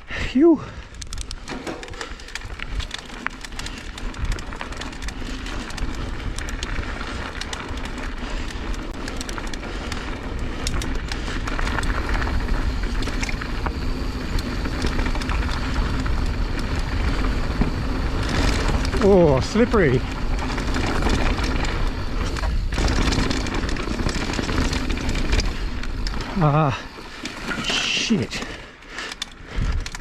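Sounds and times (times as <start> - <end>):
bike clicks and rattles: 0.0 - 30.0
tyres sliding on dirt: 1.4 - 30.0.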